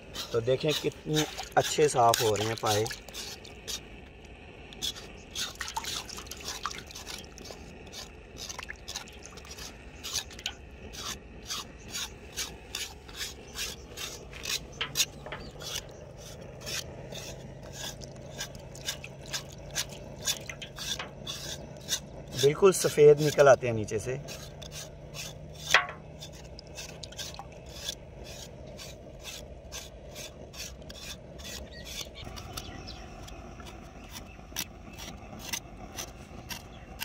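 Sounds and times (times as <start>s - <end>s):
knife scraping skin: 0.0s - 3.9s, 4.8s - 22.6s, 24.2s - 37.0s.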